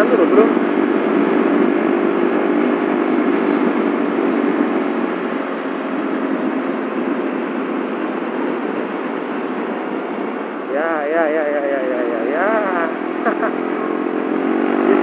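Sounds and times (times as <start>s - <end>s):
faint scooter engine hum: 0.0s - 15.0s
road noise: 0.0s - 15.0s.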